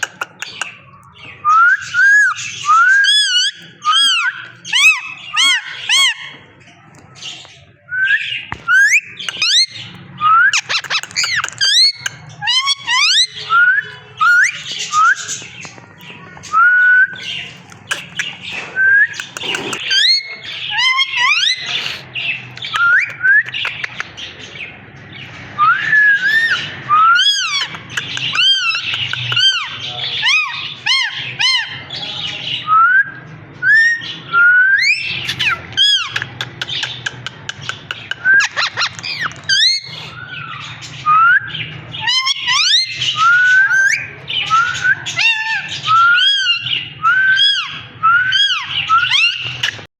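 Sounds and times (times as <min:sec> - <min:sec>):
parrot whistling and squawking: 0:01.5 - 0:06.4, 0:08.0 - 0:15.4, 0:16.6 - 0:23.8, 0:25.6 - 0:31.8, 0:32.7 - 0:49.9.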